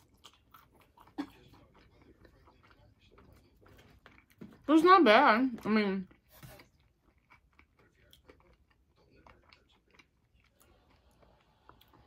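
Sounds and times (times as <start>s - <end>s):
close-up chewing: 0.0s - 4.8s, 5.7s - 12.0s
low room hum: 0.0s - 12.0s.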